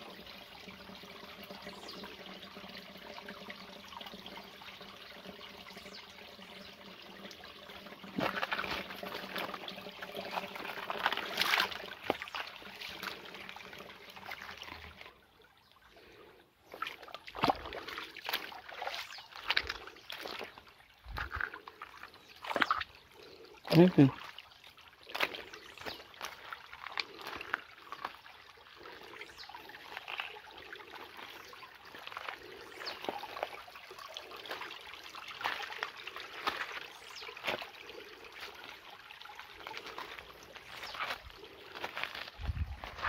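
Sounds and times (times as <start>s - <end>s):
stream trickling over stones: 0.0s - 43.0s.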